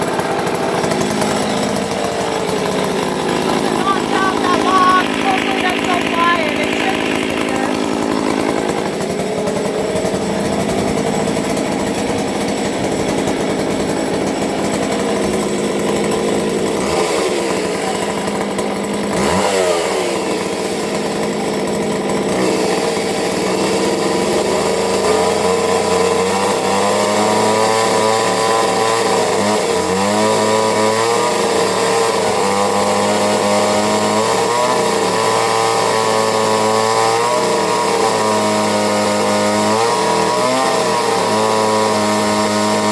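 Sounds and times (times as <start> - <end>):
chainsaw engine running: 0.0 - 42.9.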